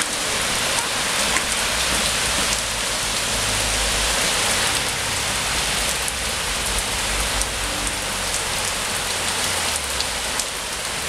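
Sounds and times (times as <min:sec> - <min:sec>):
rain on hard paving: 0:00.0 - 0:11.0.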